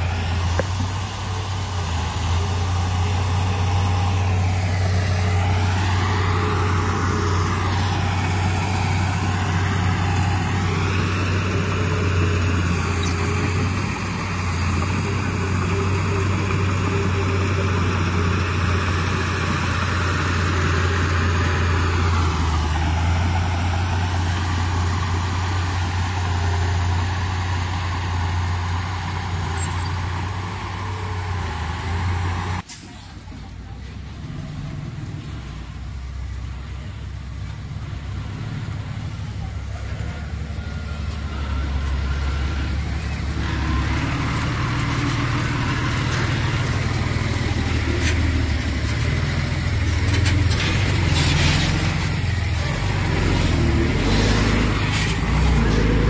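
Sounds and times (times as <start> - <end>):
bulldozer diesel engine drone: 0.0 - 56.0.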